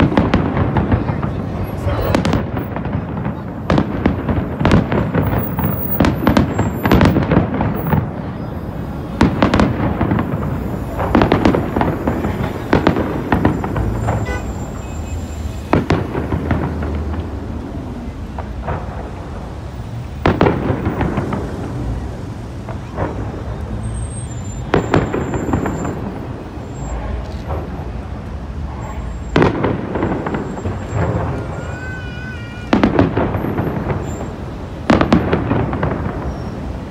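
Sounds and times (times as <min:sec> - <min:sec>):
fireworks booming: 0:00.0 - 0:36.9.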